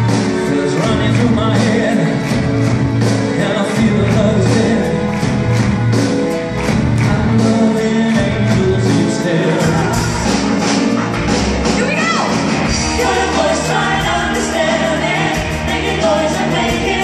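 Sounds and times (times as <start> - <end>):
upbeat pop music with singing: 0.0 - 17.0.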